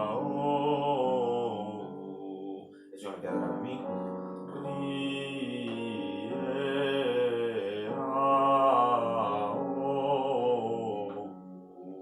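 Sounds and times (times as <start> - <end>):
man singing vocal exercise: 0.0 - 12.0.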